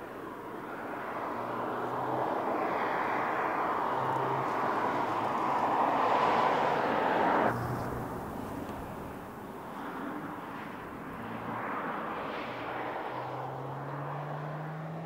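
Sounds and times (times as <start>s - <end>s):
car driving past: 0.9s - 15.0s.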